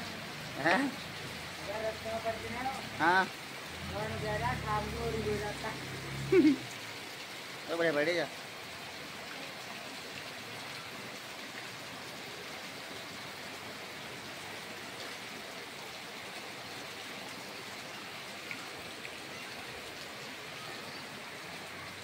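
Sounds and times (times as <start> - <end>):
rain falling on flooded road: 0.0 - 22.0.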